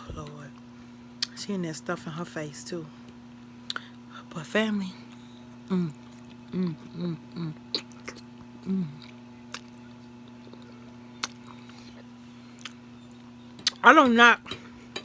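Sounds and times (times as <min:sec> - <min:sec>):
low electrical hum: 0:00.0 - 0:15.0
closed-mouth mm hums: 0:02.9 - 0:15.0.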